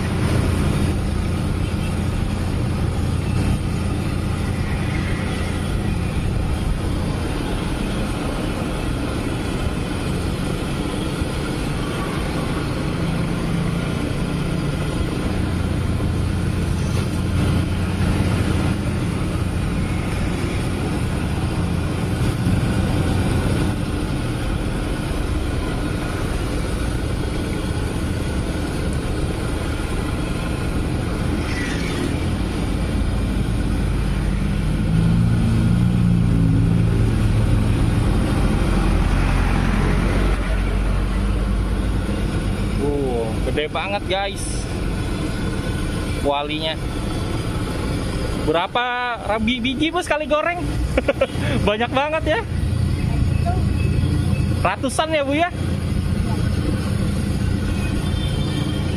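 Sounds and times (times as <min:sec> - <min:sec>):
road traffic rumble: 0:00.0 - 0:58.9.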